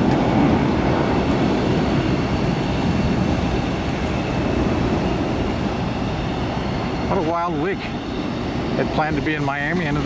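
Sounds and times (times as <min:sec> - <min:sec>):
jet airliner engines rumbling: 0:00.0 - 0:10.0.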